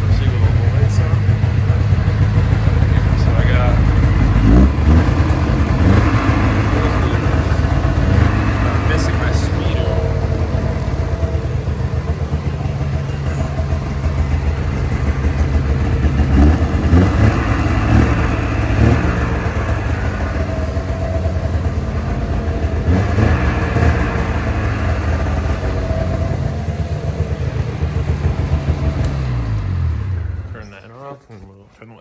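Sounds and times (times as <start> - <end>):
snowmobile engine idling and revving: 0.0 - 31.2.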